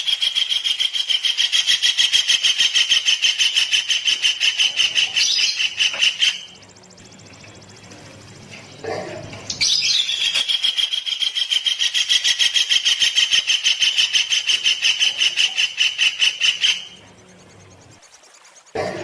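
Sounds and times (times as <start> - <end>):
songbird trill: 0.0 - 17.1.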